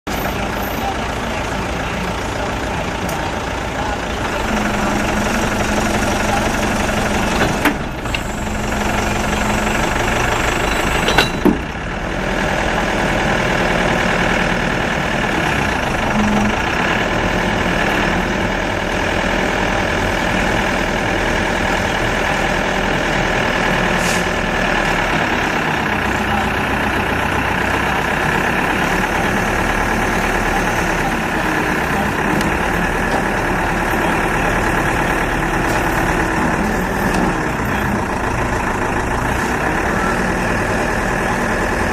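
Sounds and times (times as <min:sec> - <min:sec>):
diesel engine idling: 0:00.1 - 0:41.9.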